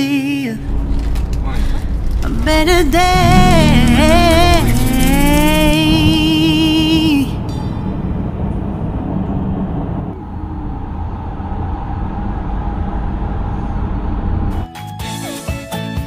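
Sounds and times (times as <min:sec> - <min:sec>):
tyre and engine rumble: 0:00.6 - 0:14.6.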